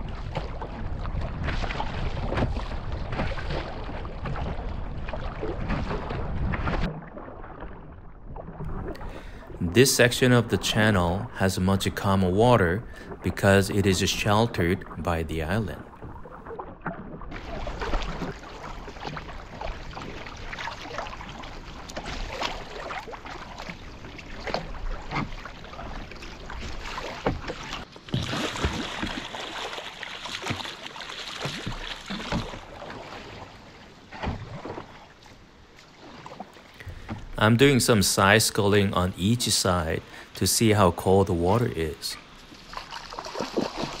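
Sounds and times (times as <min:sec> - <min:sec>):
paddle strokes splashing: 0:00.0 - 0:44.0
water washing along hull: 0:00.0 - 0:44.0.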